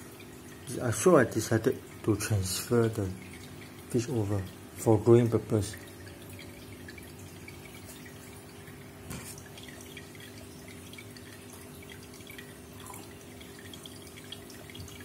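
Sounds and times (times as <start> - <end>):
aquarium filter bubbling: 0.0 - 15.0.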